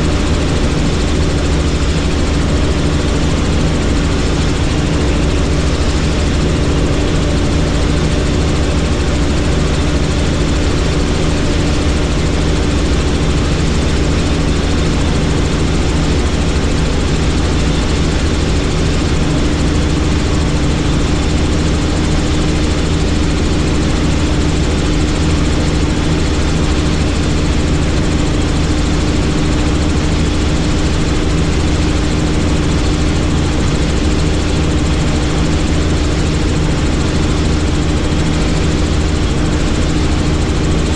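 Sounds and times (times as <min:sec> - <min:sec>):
helicopter rotor and engine roar: 0:00.0 - 0:40.9.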